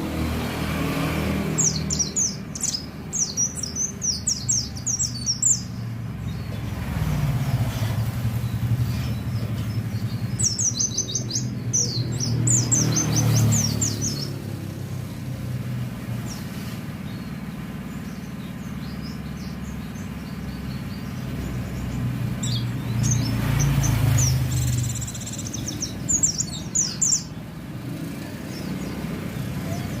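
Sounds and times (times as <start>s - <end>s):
road traffic rumble: 0.0s - 30.0s
bird chirping high song: 1.3s - 30.0s.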